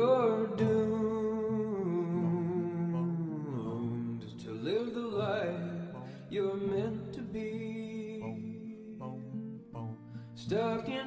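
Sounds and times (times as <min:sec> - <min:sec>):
guitar: 0:00.0 - 0:11.0
man singing: 0:00.0 - 0:11.0.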